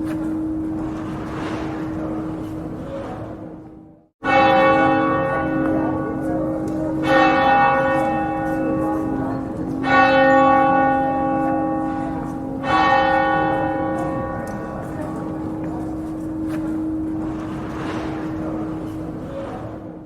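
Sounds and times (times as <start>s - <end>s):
church bell tolling: 0.0s - 20.0s.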